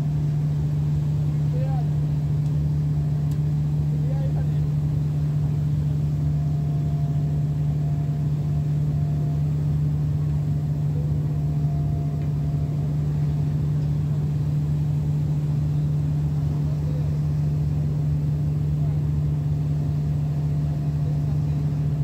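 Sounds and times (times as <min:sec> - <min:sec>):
ship diesel engines droning: 0:00.0 - 0:22.0.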